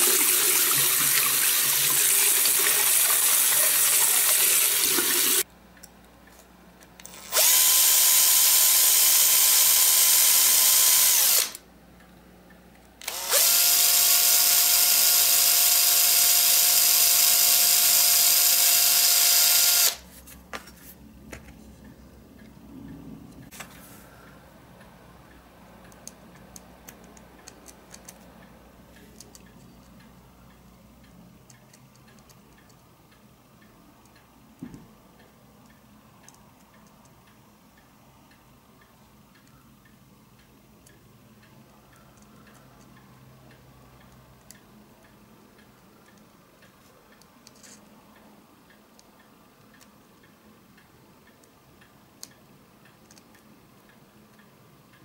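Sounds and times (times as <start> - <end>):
faint steady ticking: 9.0 - 19.8, 21.1 - 55.0.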